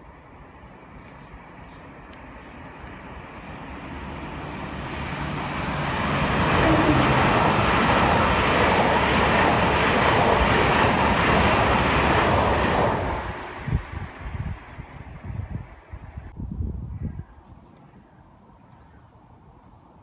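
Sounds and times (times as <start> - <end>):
train passing at speed: 0.0 - 16.3.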